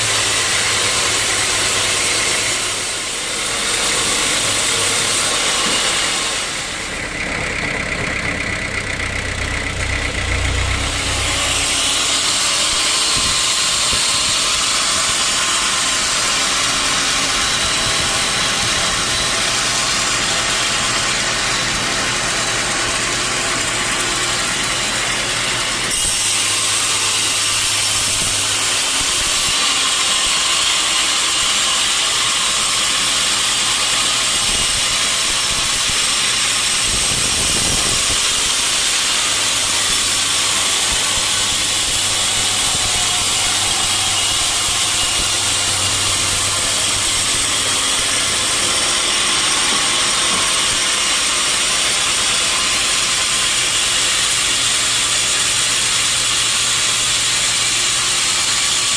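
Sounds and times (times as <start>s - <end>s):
saw blade cutting through log: 0.0s - 58.9s.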